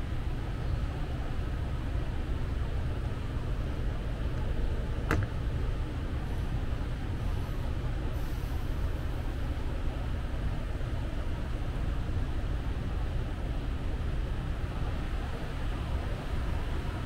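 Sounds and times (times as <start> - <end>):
low rumble with light hiss: 0.0 - 17.0.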